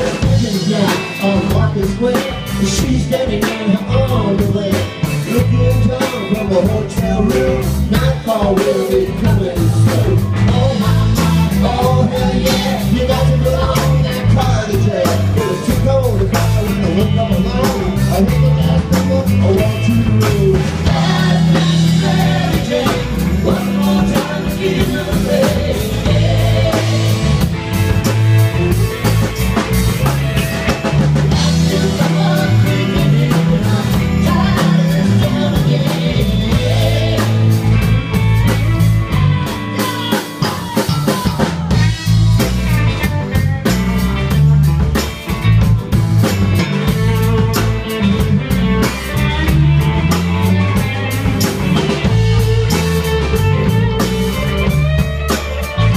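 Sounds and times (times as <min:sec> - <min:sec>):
drum kit beat: 0:00.0 - 0:55.9
electric bass: 0:00.0 - 0:55.9
electric guitars: 0:00.0 - 0:55.9.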